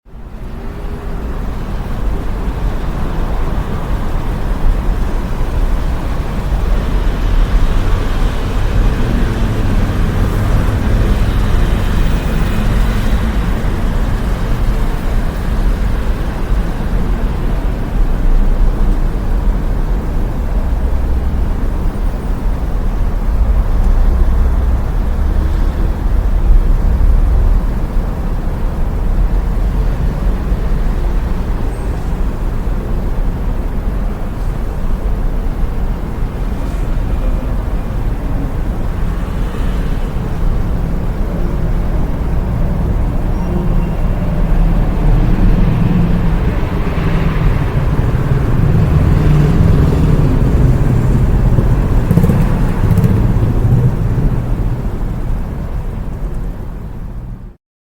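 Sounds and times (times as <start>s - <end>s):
road traffic rumble: 0.0s - 57.6s.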